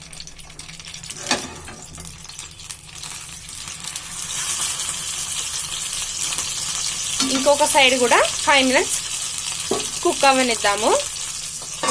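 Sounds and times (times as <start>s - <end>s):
oil sizzling in a pan: 0.0s - 11.9s.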